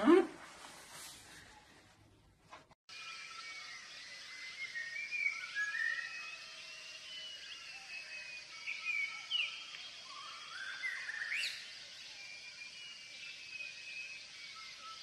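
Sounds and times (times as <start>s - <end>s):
high chirps and whistles: 2.9s - 15.0s.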